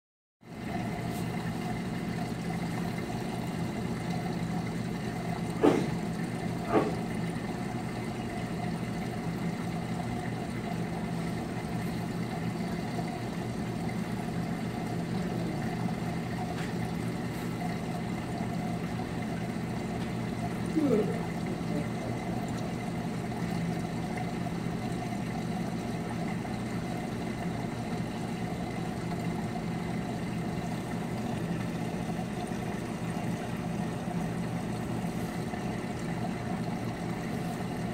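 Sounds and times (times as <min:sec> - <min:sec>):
aquarium pump humming: 0:00.4 - 0:37.9.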